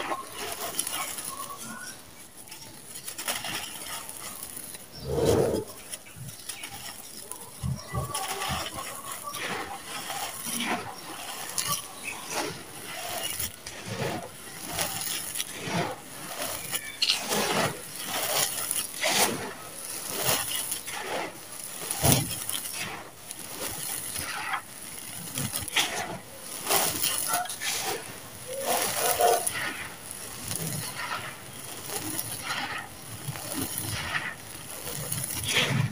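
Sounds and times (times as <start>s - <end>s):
pebbles clicking and pattering: 0.0s - 35.9s
sand hissing as poured: 0.0s - 35.9s.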